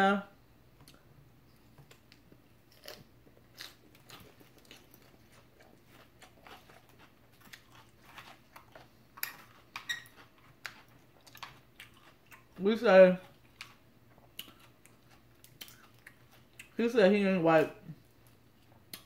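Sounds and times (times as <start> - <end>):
chewing lettuce salad: 0.9 - 16.9, 17.6 - 19.0.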